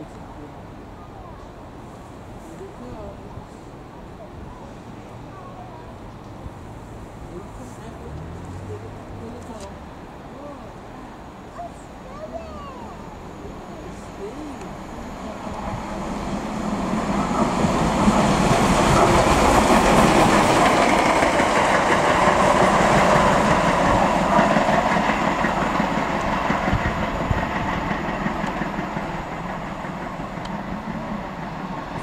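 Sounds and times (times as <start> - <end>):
steam locomotive passing: 0.0 - 32.0.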